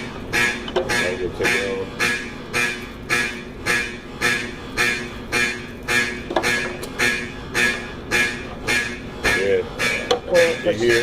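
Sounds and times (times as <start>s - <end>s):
fire alarm horn blasts: 0.0s - 11.0s.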